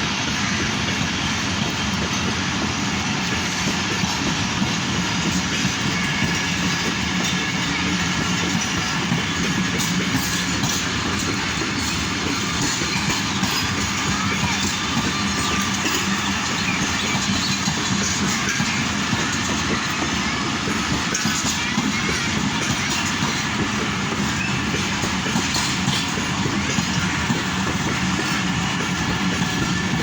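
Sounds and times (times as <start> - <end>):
train wheels rumbling: 0.0 - 30.0
wheels clicking over track: 0.0 - 30.0.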